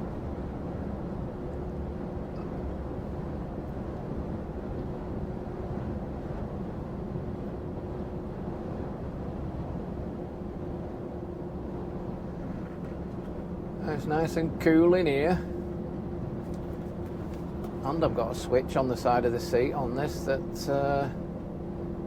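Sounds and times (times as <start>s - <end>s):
diesel engine drone: 0.0s - 22.0s
road noise: 0.0s - 22.0s.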